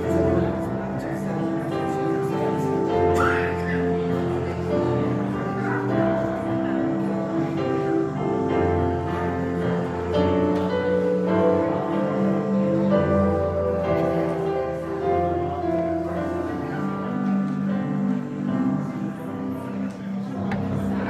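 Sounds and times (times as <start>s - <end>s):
grand piano: 0.0s - 21.0s.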